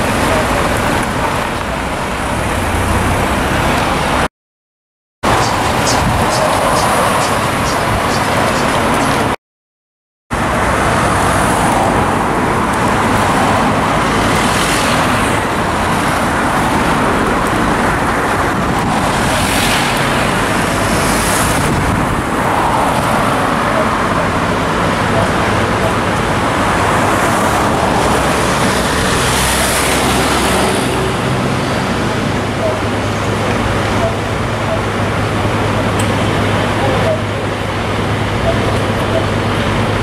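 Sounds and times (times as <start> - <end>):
road traffic noise: 0.0 - 4.3, 5.2 - 9.4, 10.3 - 40.0.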